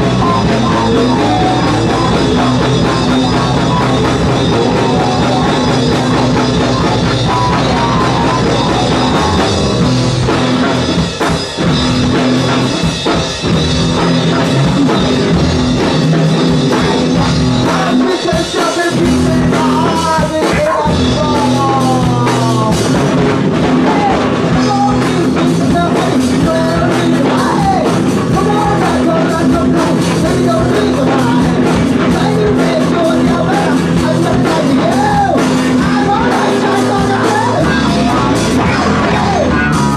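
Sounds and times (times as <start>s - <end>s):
person singing: 0.0s - 10.9s, 16.7s - 23.0s, 23.6s - 39.9s
rock band playing: 0.0s - 39.9s.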